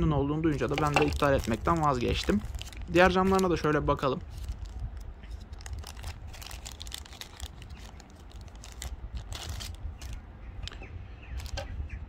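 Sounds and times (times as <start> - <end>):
plastic bag crinkling: 0.5 - 10.2, 11.4 - 11.6.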